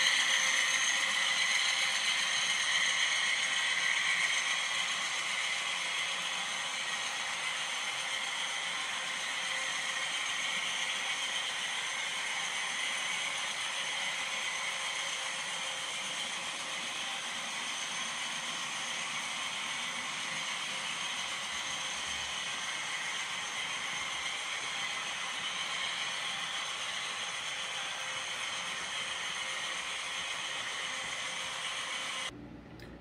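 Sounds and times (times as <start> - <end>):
model train wheels rolling on rails: 0.0 - 32.3.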